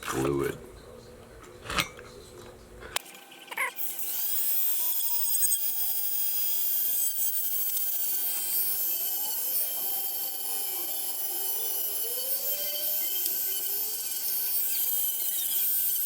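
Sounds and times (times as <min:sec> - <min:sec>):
rotary tool high whine sanding metal: 0:03.0 - 0:16.0.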